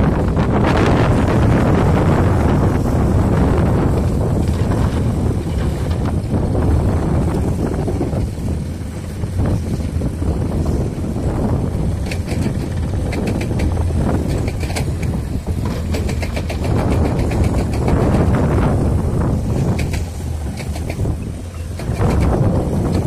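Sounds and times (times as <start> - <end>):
excavator diesel engine drone: 0.0 - 23.0.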